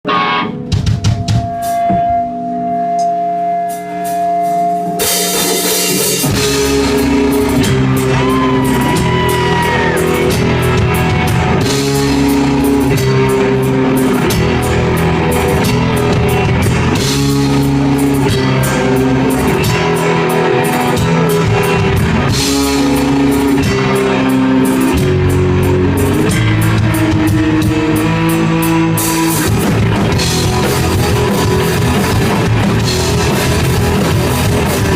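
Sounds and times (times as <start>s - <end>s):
punk rock band playing: 0.0s - 34.9s.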